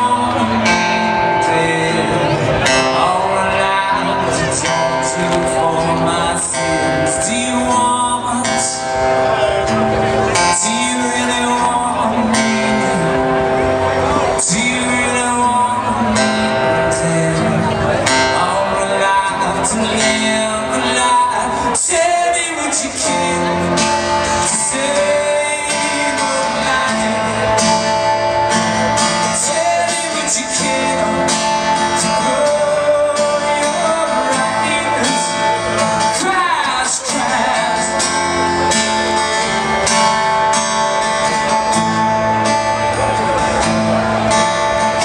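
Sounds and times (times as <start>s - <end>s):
acoustic guitar strumming: 0.0s - 45.0s
man singing: 0.0s - 45.0s.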